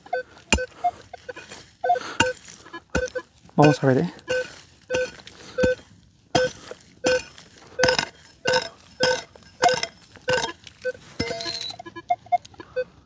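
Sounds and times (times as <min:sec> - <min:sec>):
metal tool digging into soil: 0:00.5 - 0:05.8, 0:06.4 - 0:11.8.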